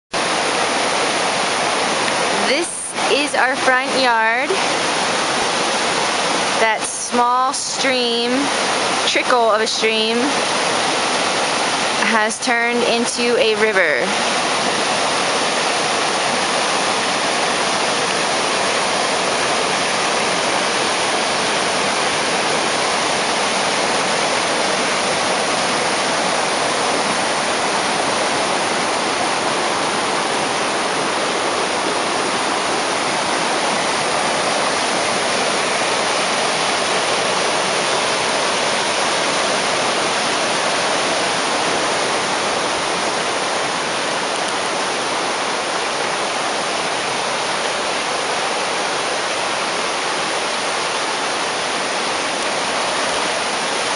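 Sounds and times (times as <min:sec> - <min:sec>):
creek torrent over rocks: 0:00.2 - 0:53.9.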